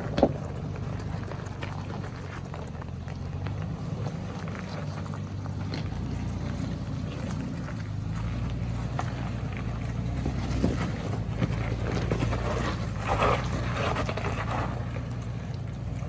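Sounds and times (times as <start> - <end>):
engine running low: 0.0 - 16.0.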